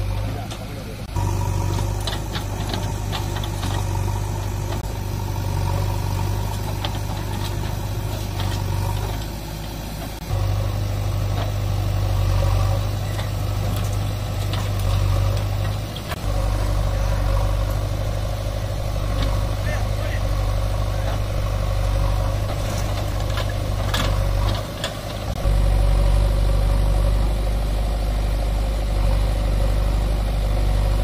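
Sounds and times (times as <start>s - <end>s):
backhoe loader diesel engine: 0.0s - 31.0s
tractor idling: 0.0s - 31.0s.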